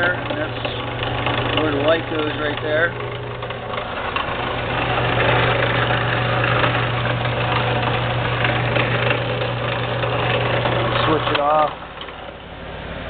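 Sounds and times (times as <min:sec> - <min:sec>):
drill press motor humming: 0:00.0 - 0:13.0.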